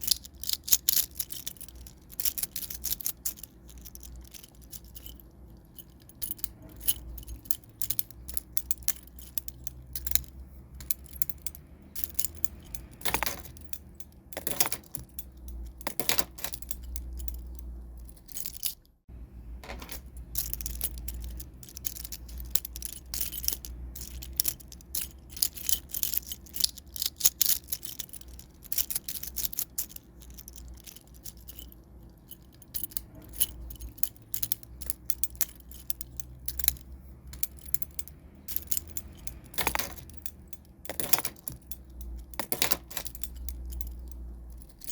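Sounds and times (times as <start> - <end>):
metal keys jingling: 0.0 - 19.0, 19.6 - 44.9.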